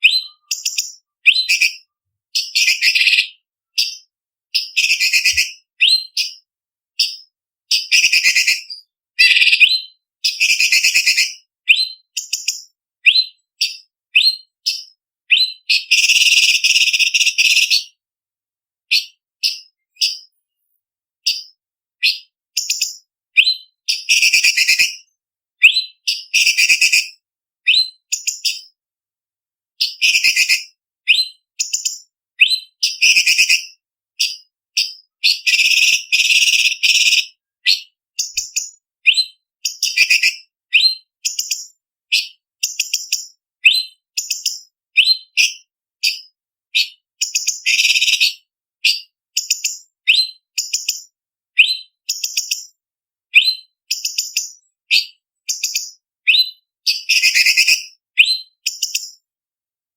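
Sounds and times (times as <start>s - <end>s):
bird singing whistled notes: 0.0s - 18.0s, 18.9s - 20.4s, 21.2s - 27.1s, 27.7s - 28.8s, 29.8s - 59.2s.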